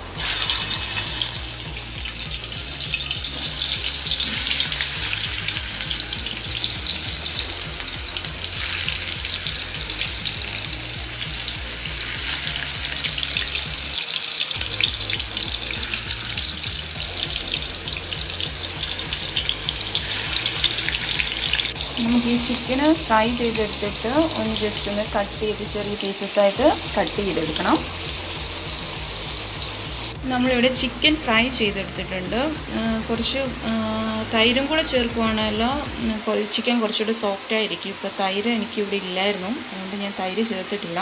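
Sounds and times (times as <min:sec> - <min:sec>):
chicken sizzling in oil: 0:00.0 - 0:41.0.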